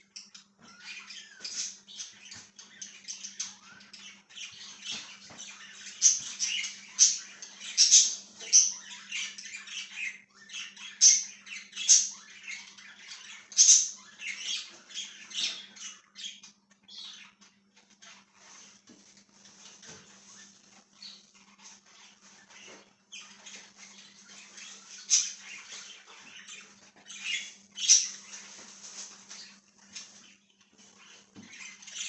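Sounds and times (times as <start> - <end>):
budgies chirping and chattering: 0.0 - 32.0.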